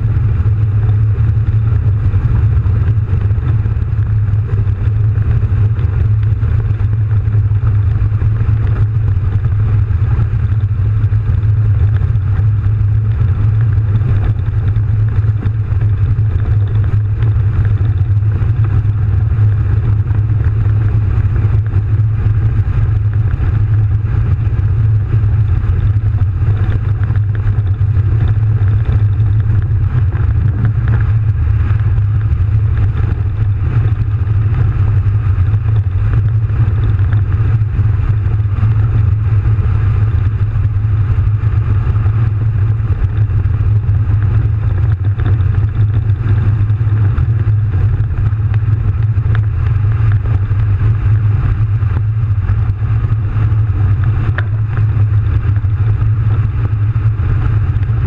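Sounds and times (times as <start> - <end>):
diesel engine drone from inside cab: 0.0 - 58.0.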